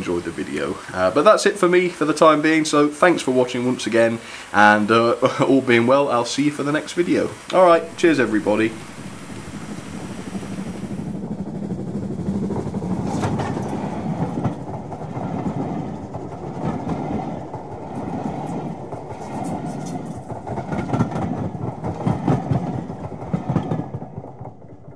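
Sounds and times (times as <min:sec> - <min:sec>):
train wheels clattering on rails: 0:00.0 - 0:24.9.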